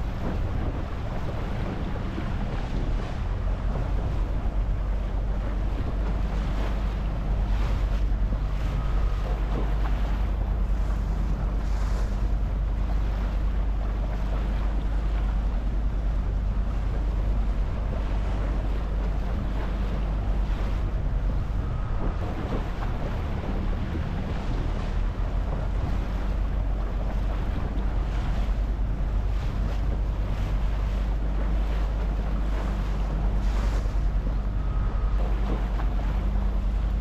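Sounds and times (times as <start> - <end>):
sea water splashing around boat: 0.0 - 37.0
wind rumble on microphone: 0.0 - 37.0.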